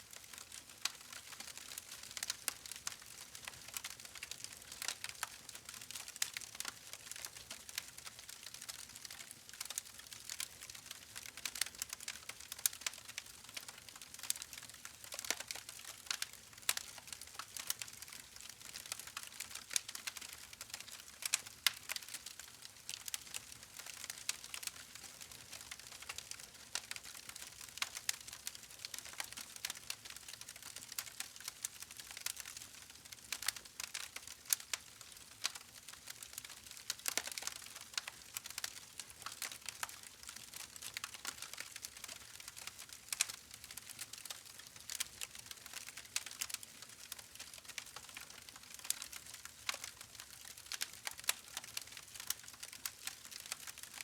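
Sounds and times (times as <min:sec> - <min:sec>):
campfire crackling and popping: 0:00.3 - 0:53.8.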